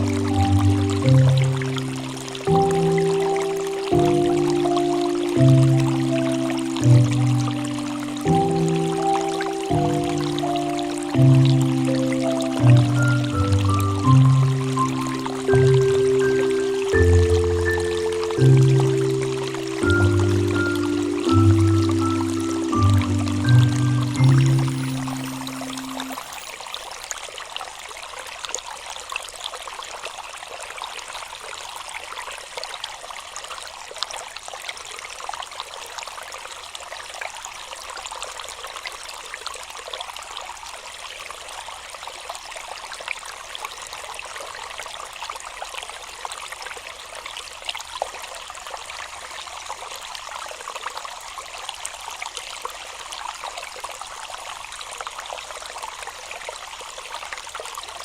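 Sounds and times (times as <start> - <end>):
river water flowing: 0.0 - 58.0
water splashes and trickles: 0.0 - 58.0.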